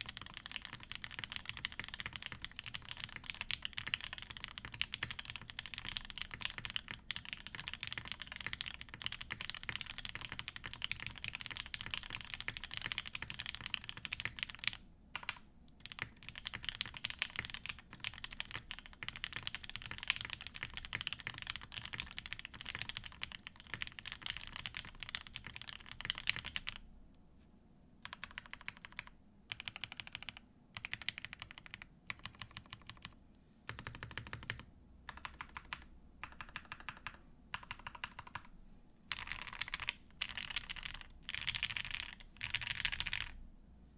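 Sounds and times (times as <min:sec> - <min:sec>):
mechanical keyboard typing: 0:00.0 - 0:26.8, 0:28.0 - 0:38.5, 0:39.1 - 0:43.4.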